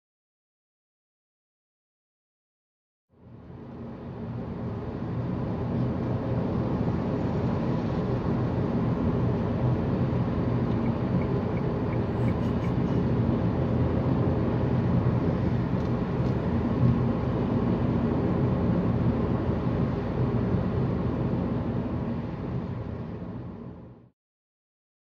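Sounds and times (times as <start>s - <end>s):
car engine hum: 3.2s - 24.1s.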